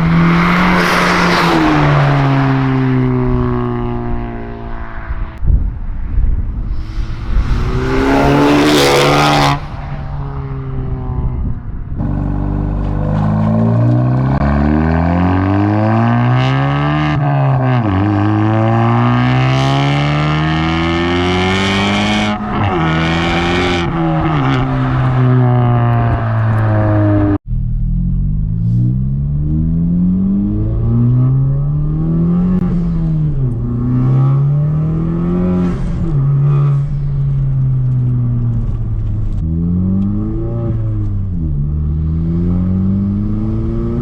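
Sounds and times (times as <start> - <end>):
car engine accelerating hard: 6.8 - 44.0.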